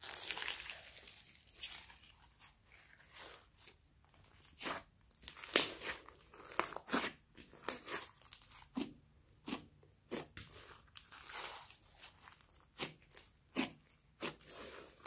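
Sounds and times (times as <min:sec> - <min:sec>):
slime squelching and popping: 0:00.0 - 0:01.9, 0:04.1 - 0:15.0.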